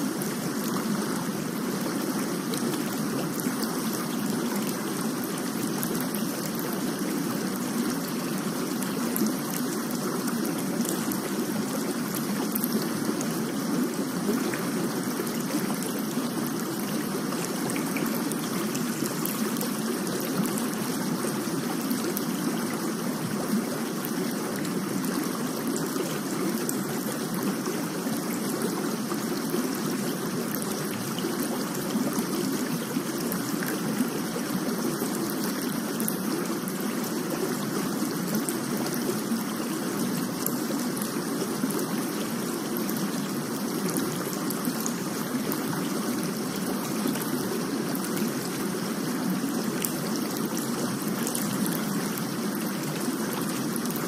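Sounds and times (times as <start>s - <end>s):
faint drip-like clicks: 0.3s - 48.6s, 49.4s - 54.0s.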